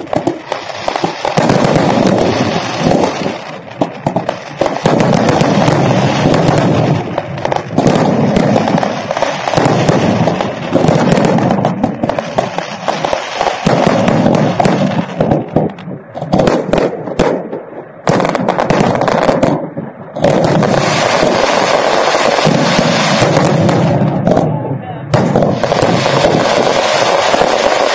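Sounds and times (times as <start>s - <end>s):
fireworks crackling and bursting: 0.0s - 27.9s.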